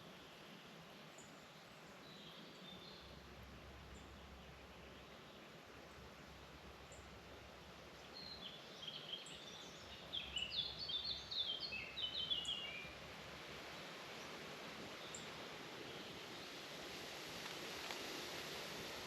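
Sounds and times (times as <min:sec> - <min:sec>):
forest background hiss: 0:00.0 - 0:19.0.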